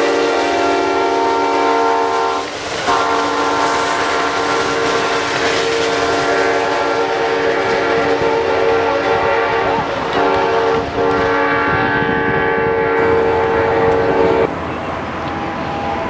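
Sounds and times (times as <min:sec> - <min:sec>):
locomotive air horn chord: 0:00.0 - 0:14.5
passing train rumble: 0:00.0 - 0:16.0.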